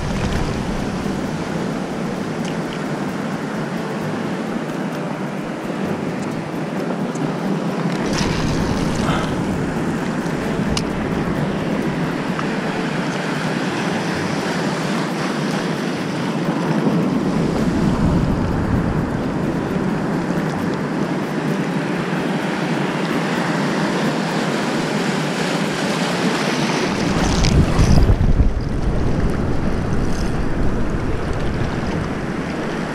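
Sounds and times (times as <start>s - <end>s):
wind buffeting microphone: 0.0s - 7.4s, 8.0s - 15.0s, 15.6s - 21.6s, 26.6s - 32.9s
ocean waves: 0.0s - 32.9s.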